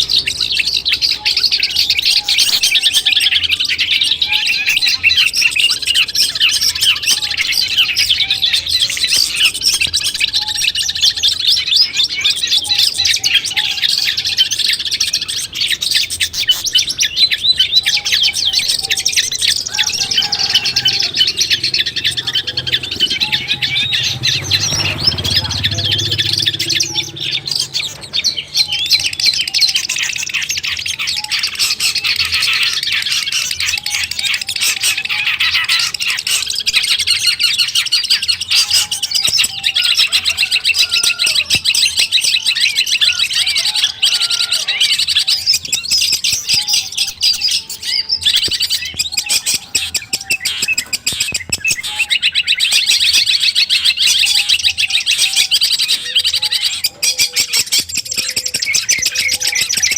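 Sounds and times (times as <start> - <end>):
bird chattering song: 0.0 - 59.9
low whistled bird notes: 0.0 - 59.9.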